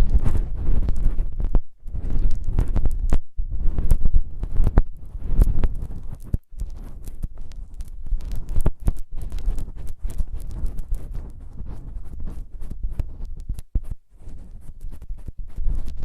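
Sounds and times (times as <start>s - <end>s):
rubbing and scraping on microphone: 0.0s - 16.0s
sharp crackles and clicks: 0.0s - 16.0s.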